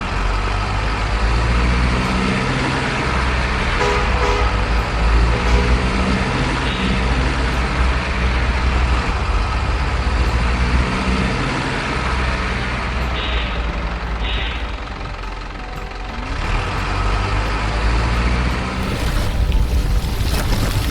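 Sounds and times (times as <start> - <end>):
diesel truck engine rumbling: 0.0 - 20.9.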